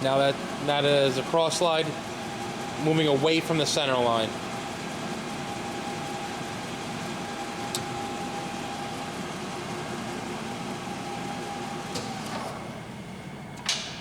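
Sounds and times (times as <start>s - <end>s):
lathe mechanical hum: 0.0s - 14.0s.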